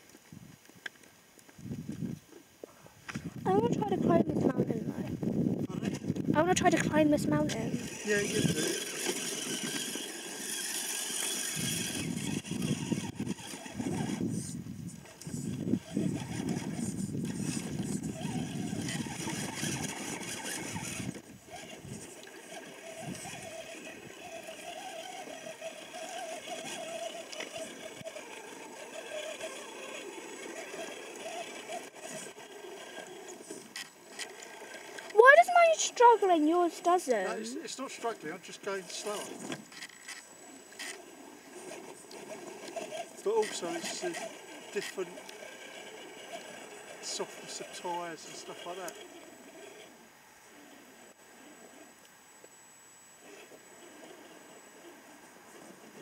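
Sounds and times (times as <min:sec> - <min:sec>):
toy car motor whirring: 0:03.2 - 0:52.5, 0:53.1 - 0:56.0.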